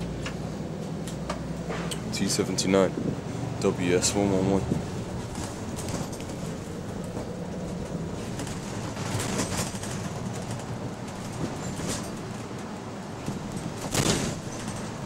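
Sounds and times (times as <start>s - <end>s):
bus bodywork rattling: 0.0s - 15.0s
bus engine and road rumble: 0.0s - 15.0s.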